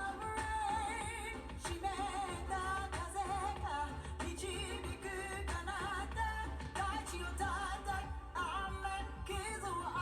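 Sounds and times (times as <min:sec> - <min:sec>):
woman singing a slow ballad: 0:00.0 - 0:10.0.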